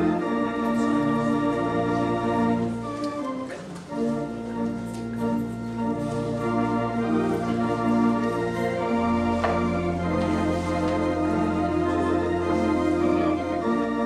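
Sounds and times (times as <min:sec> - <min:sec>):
organ playing sustained chords: 0:00.0 - 0:14.0.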